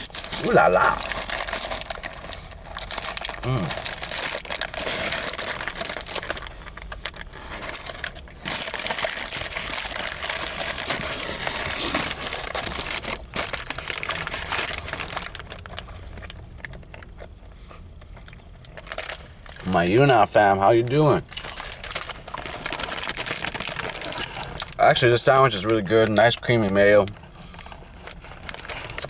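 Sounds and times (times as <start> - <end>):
wrapping crinkling: 0.0 - 17.3, 18.1 - 29.0
sandwich crunching as chewed: 0.0 - 19.9, 20.8 - 29.0.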